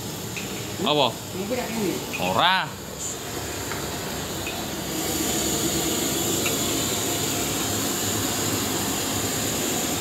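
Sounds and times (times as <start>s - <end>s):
gas burner roar: 0.0s - 10.0s
vegetables sizzling in a wok: 0.0s - 10.0s.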